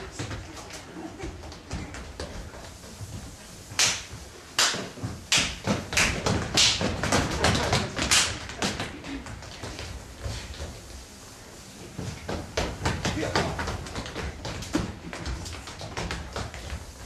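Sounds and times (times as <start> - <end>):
bodies and feet hitting stage floor: 0.0 - 17.0.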